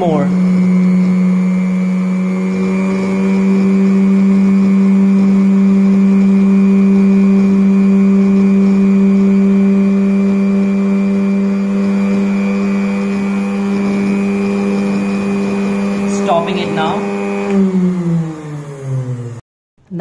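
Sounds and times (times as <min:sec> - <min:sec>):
electric motor humming with high whine: 0:00.0 - 0:19.4.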